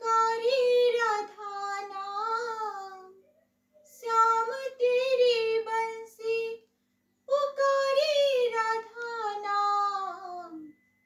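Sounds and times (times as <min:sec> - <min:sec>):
woman singing unaccompanied: 0:00.0 - 0:03.2, 0:03.8 - 0:06.7, 0:07.3 - 0:10.8.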